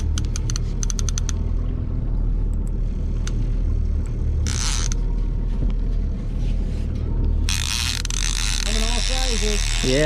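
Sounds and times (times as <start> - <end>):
boat motor droning: 0.0 - 10.0.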